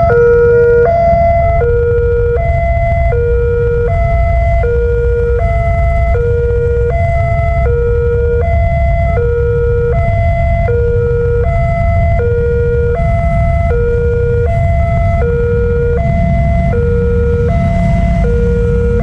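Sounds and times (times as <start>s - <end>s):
level crossing two-tone alarm: 0.0s - 19.0s
steady low rumble: 0.0s - 19.0s.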